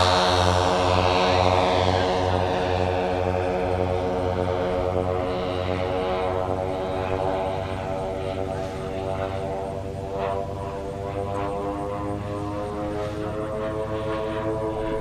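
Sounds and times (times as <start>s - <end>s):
model plane engines running: 0.0s - 15.0s.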